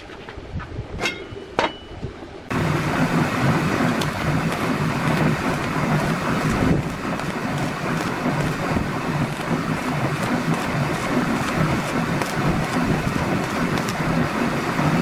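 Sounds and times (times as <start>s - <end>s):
low hum: 0.6s - 15.0s
welding arc crackling sizzle: 2.5s - 15.0s.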